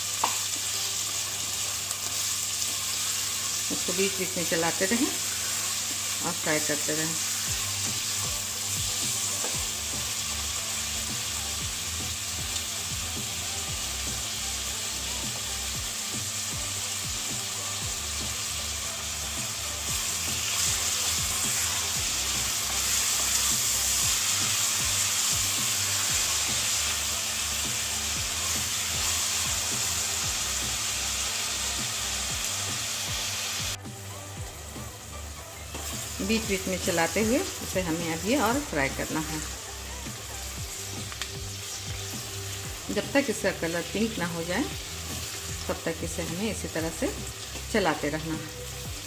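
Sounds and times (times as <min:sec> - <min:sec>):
onions sizzling in oil: 0:00.0 - 0:49.0.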